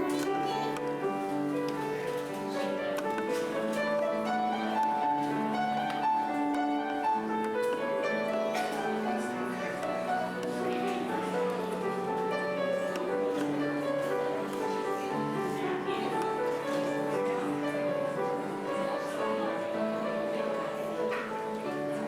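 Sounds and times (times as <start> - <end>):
slow keyboard chords: 0.0 - 22.0.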